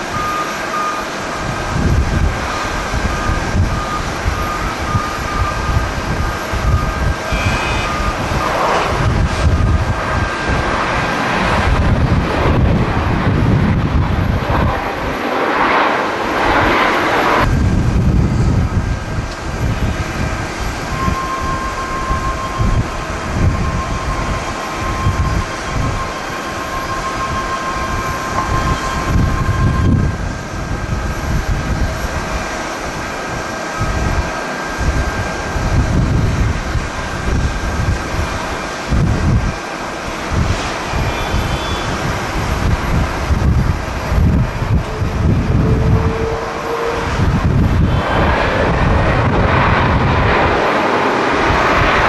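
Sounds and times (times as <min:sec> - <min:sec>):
jet engines running loudly: 0:00.0 - 0:52.0
jet rumble: 0:00.0 - 0:52.0
wind buffeting microphone: 0:00.0 - 0:52.0.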